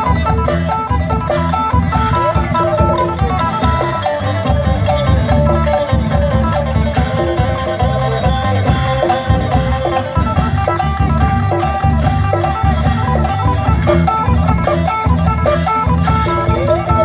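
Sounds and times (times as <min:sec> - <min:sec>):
drums: 0:00.0 - 0:17.0
heavy pulsing bass: 0:00.0 - 0:17.0
plucked lutes melody: 0:00.0 - 0:17.0.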